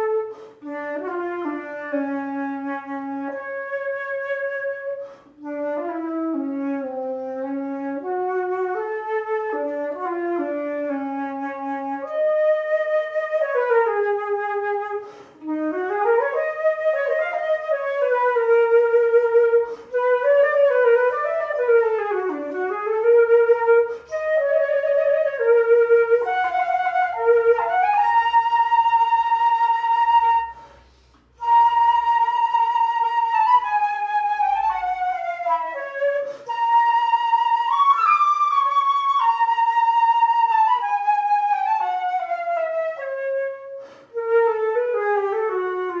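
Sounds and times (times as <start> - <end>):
flute melody: 0.0 - 46.0.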